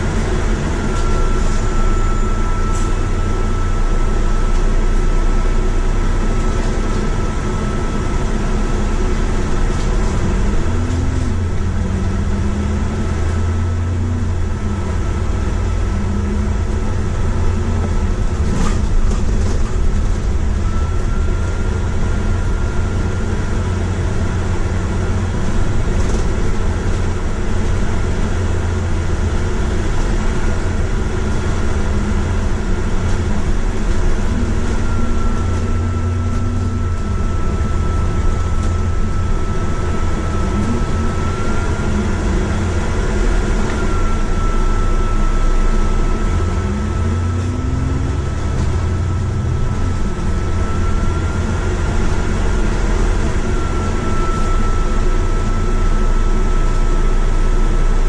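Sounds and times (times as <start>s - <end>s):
bus engine and road rumble: 0.0s - 58.0s
faint high whine: 0.0s - 58.0s.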